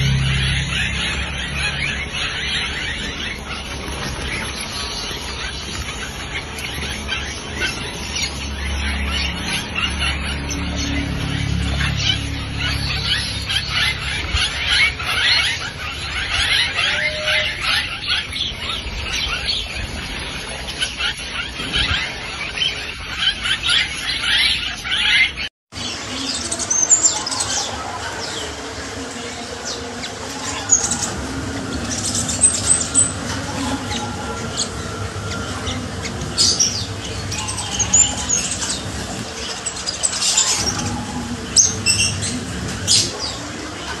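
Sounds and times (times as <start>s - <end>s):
starlings chirping and squawking: 0.0s - 44.0s.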